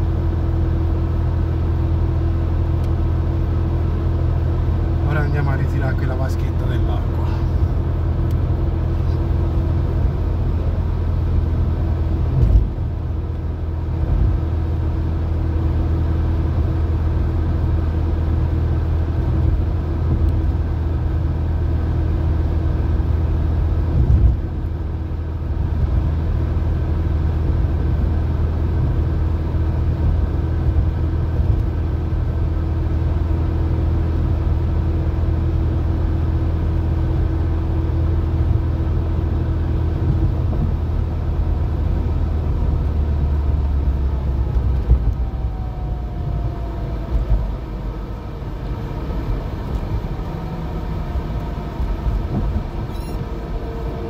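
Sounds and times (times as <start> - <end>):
car engine drone: 0.0 - 54.0
road and wind noise: 0.0 - 54.0.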